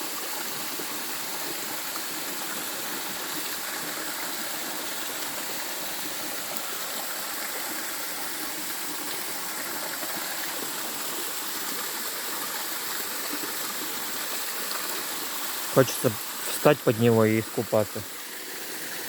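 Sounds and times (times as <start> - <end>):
waterfall splashing into pool: 0.0 - 19.0.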